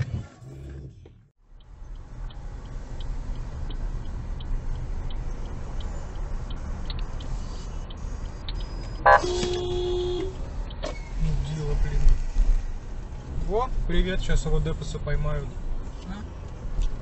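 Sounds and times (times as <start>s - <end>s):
car engine and road hum: 0.0s - 17.0s
turn signal clicking: 0.6s - 17.0s.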